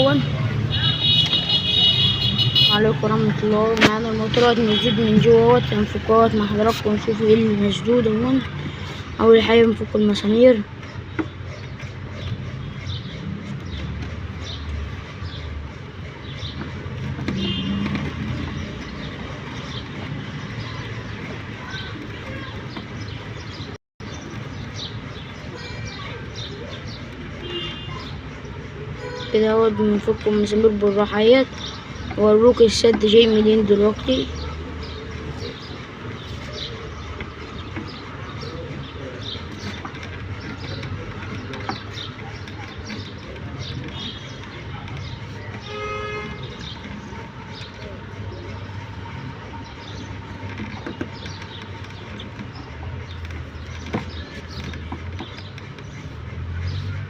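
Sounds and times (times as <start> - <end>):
birds chirping: 0.0 - 57.0
screwdriver squeaks and scrapes: 0.5 - 57.0.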